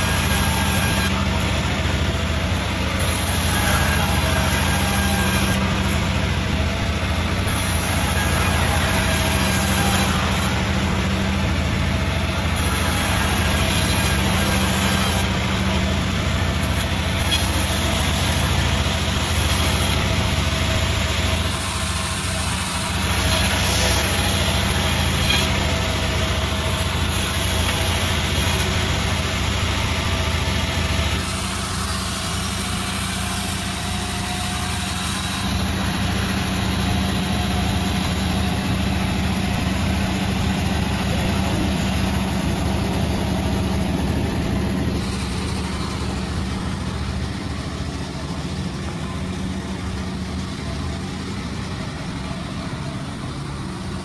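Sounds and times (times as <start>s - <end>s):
high-pitched machine noise: 0.0s - 54.0s
sawmill machine drone: 0.0s - 54.0s.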